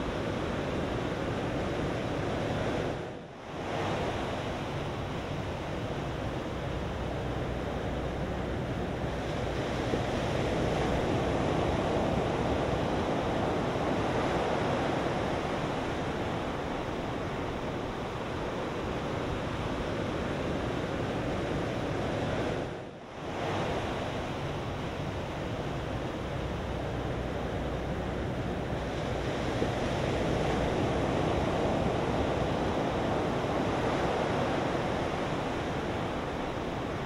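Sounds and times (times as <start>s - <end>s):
ocean surf breaking: 0.0s - 37.0s
wind on microphone: 0.0s - 37.0s.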